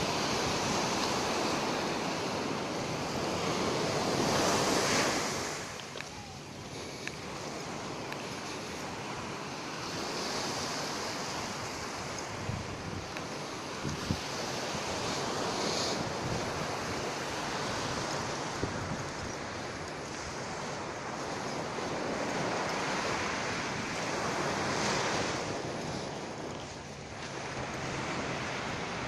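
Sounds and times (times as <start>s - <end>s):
surf washing onto beach: 0.0s - 29.0s
wind buffeting microphone: 0.0s - 29.0s.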